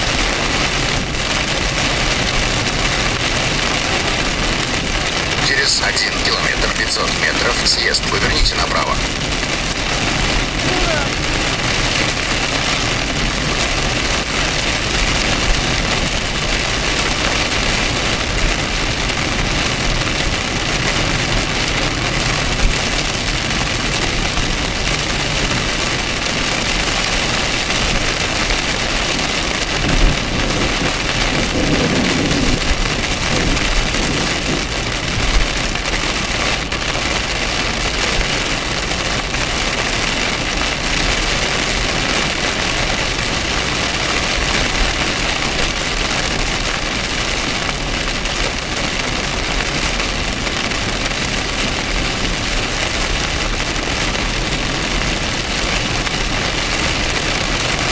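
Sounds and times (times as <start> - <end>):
heavy rain on car: 0.0 - 57.9
road and engine noise: 0.0 - 57.9.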